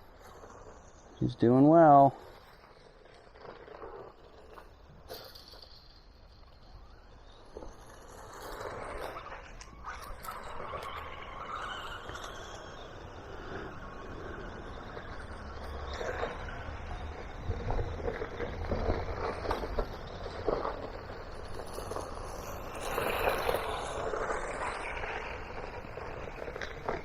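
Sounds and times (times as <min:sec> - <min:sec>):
crackles: 0:00.0 - 0:27.0
rc car motor and tyres on dirt: 0:00.0 - 0:27.0.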